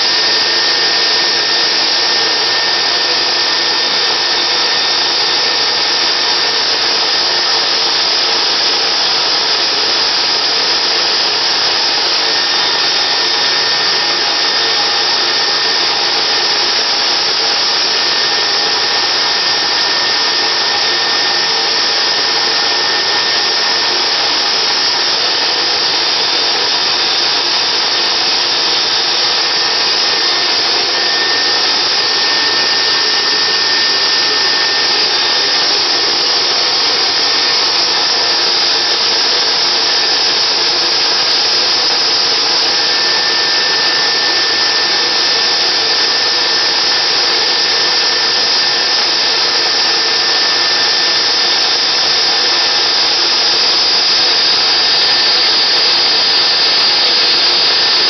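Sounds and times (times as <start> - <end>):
blower dryer whooshing: 0.0 - 58.0
electric clippers: 0.0 - 58.0.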